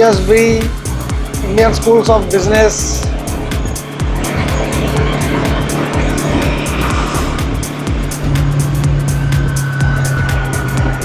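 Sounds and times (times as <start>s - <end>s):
motorbike road and traffic noise: 0.0s - 11.0s
music with steady drum beat: 0.0s - 11.0s.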